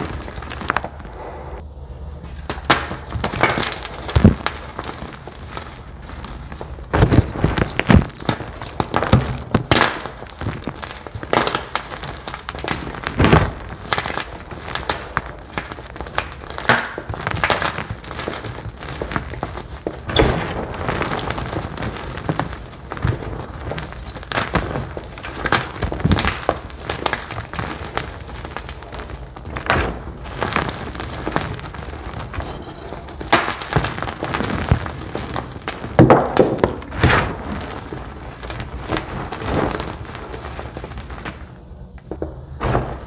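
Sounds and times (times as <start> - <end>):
gritty crumbling of fragments: 0.0 - 1.0, 2.4 - 43.0
dye blocks cracking in hands: 2.4 - 42.3.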